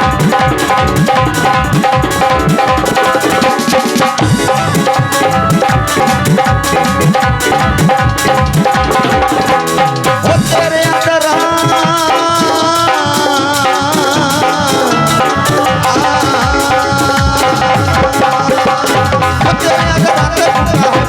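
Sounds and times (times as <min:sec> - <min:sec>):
wavering melodic line: 0:00.0 - 0:10.6, 0:12.6 - 0:21.0
hand drums beating: 0:00.0 - 0:21.0.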